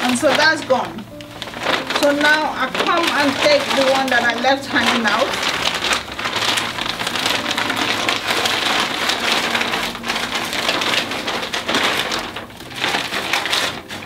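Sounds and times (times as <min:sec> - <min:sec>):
stiff fabric rustling: 0:00.0 - 0:14.0.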